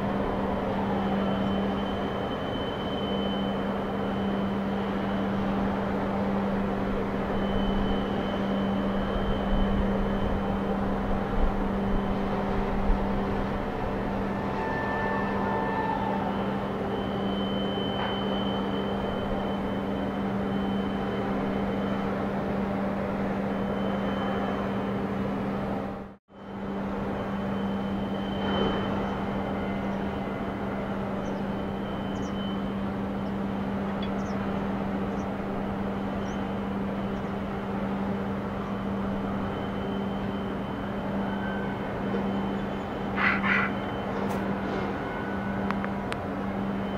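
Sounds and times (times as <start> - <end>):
machinery hum: 0.0 - 46.9.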